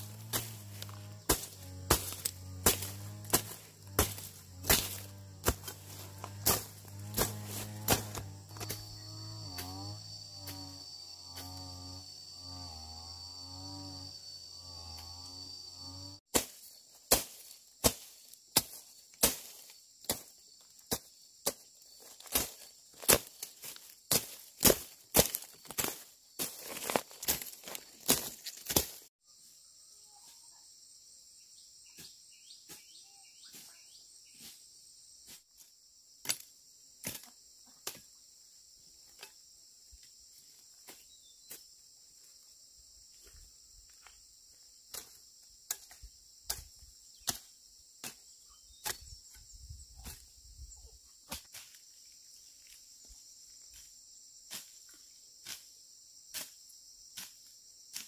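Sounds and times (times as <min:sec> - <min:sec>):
insect chirring: 0:00.0 - 0:58.0.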